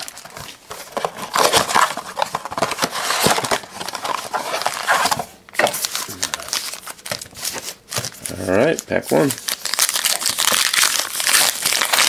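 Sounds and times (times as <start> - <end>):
card pack wrappers crinkling: 0.0 - 12.0.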